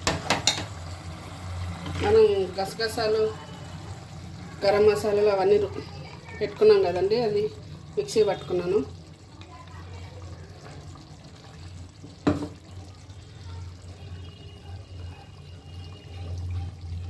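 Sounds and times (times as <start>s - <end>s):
faint liquid sounds: 0.0s - 17.0s.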